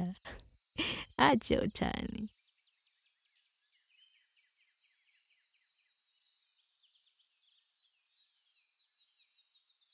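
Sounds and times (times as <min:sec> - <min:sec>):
songbirds chirping: 0:00.0 - 0:09.9.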